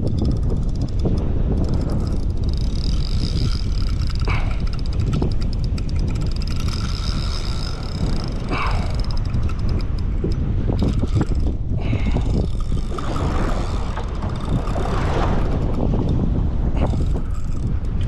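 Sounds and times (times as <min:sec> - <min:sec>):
outboard motor running: 0:00.0 - 0:18.0
wind rumble on microphone: 0:00.0 - 0:18.0.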